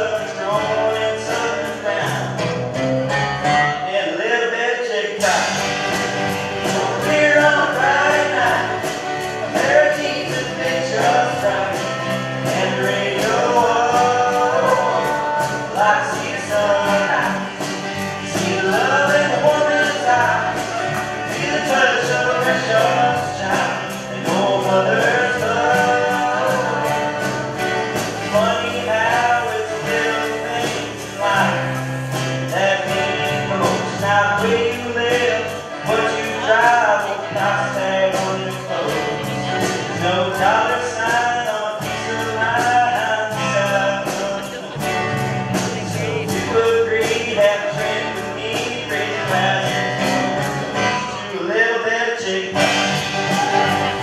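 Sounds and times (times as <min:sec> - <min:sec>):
man singing: 0:00.0 - 0:02.6, 0:03.4 - 0:54.0
acoustic guitars strumming: 0:00.0 - 0:54.0.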